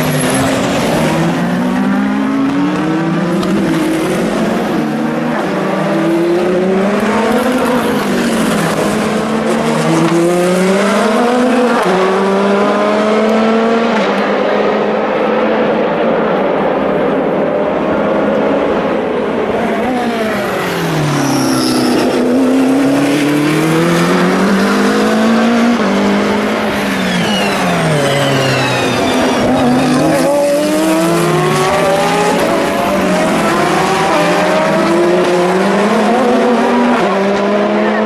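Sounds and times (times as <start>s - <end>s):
race car engines: 0.0s - 38.0s.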